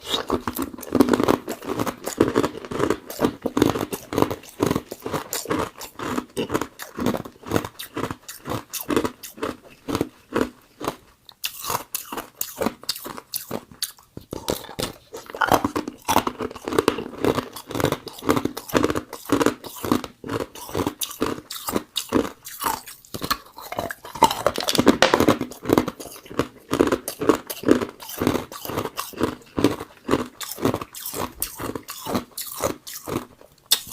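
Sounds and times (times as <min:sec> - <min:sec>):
person crunching ice: 0:00.0 - 0:33.9.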